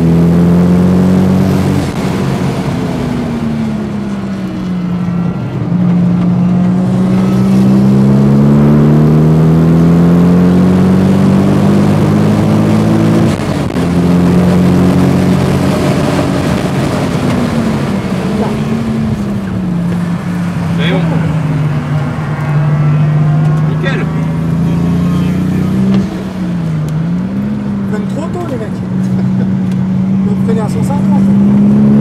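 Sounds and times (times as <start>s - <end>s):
car engine revving from inside cabin: 0.0s - 32.0s.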